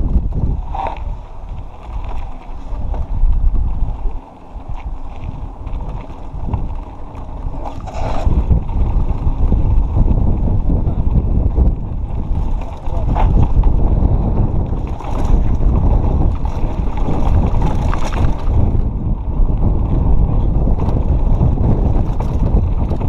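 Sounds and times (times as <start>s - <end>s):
bike rattling and knocking: 0.0s - 23.0s
wind buffeting microphone: 0.0s - 23.0s.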